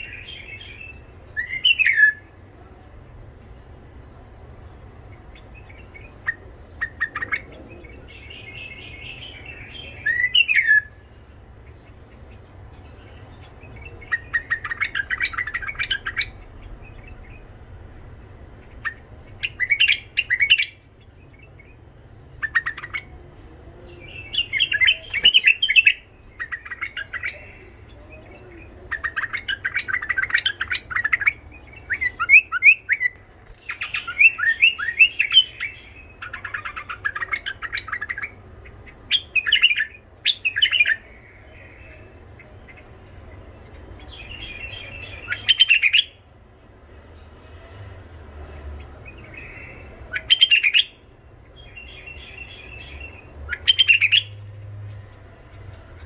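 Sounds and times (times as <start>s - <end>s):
bulbul singing: 0.0s - 2.5s, 3.6s - 46.3s, 48.8s - 56.0s.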